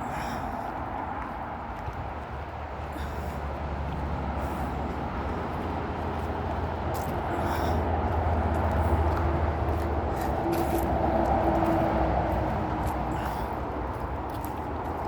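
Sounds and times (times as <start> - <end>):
motorway traffic noise: 0.0 - 15.0
passing vehicle droning: 0.0 - 15.0.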